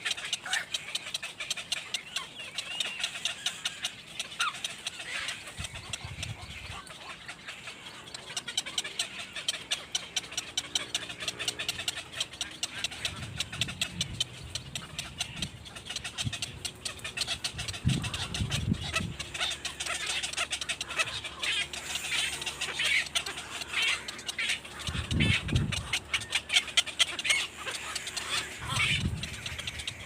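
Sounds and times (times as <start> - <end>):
birds chirping and clucking: 0.0 - 30.0.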